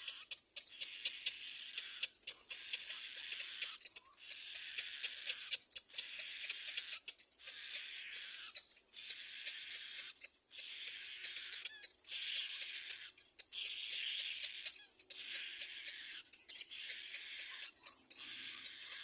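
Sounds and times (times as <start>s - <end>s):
nestling raspy begging calls: 0.0s - 19.0s
rapid sharp ticking clicks: 0.0s - 19.0s.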